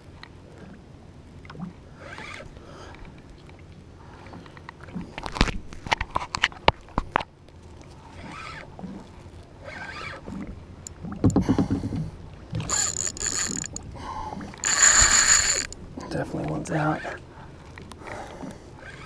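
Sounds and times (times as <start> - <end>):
paddle strokes splashing water: 1.4 - 19.0.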